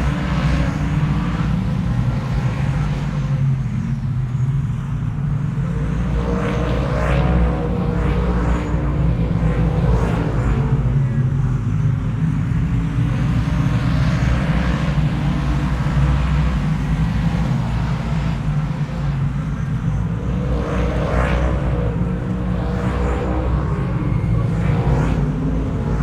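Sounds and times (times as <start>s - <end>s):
vehicle engine deep rumble: 0.0s - 26.0s.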